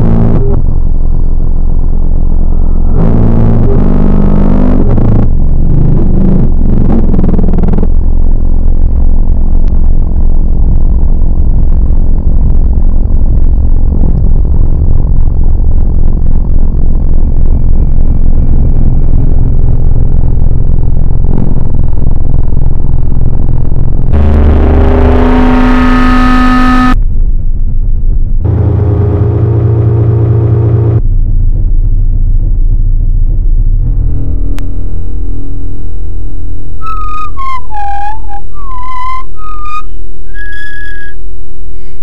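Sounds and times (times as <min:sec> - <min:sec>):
distorted low rumbling drone: 0:00.0 - 0:42.0.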